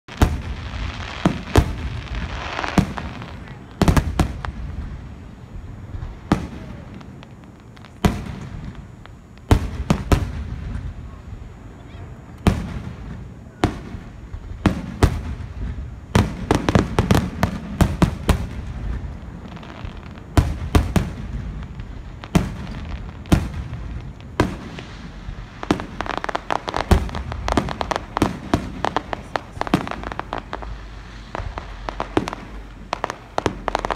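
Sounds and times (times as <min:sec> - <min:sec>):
fireworks bangs: 0:00.1 - 0:33.9
fireworks crackling pops: 0:00.1 - 0:33.9.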